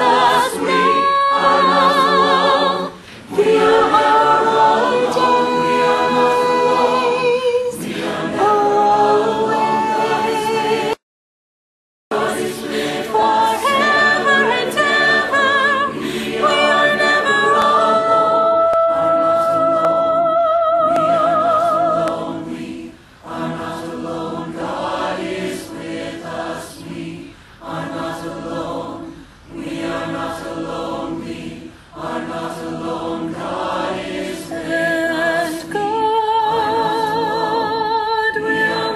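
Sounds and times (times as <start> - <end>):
choir singing: 0.0 - 11.0, 12.1 - 38.9.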